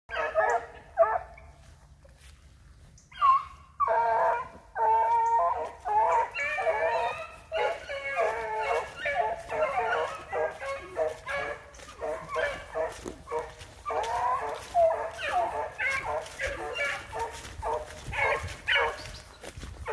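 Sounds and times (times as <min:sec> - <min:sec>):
hounds baying: 0:00.1 - 0:01.8, 0:03.0 - 0:19.9.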